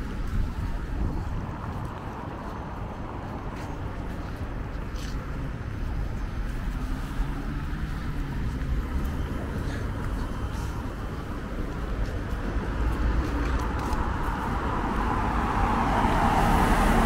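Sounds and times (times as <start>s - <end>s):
traffic rumble of engines and tyres: 0.0s - 17.0s.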